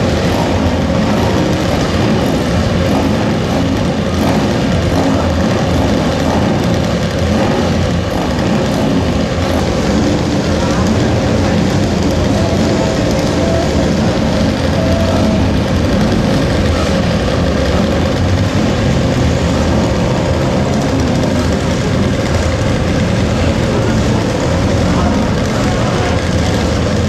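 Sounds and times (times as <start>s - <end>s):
motorcycle engines droning: 0.0s - 27.0s.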